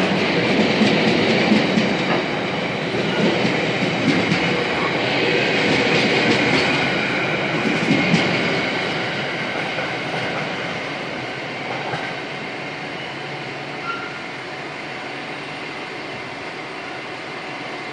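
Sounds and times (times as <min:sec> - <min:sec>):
freight train rolling past: 0:00.0 - 0:17.9.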